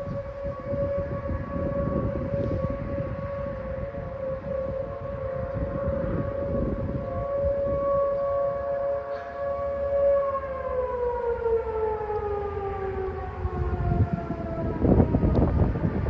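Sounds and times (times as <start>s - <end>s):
low rumbling noise: 0.0s - 16.0s
warning sirens: 0.0s - 16.0s.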